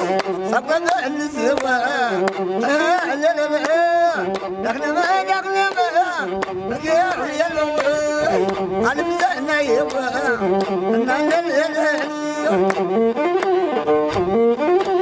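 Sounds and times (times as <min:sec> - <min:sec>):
person singing ornamented melody: 0:00.0 - 0:13.3
bowed one-string fiddle: 0:00.0 - 0:15.0.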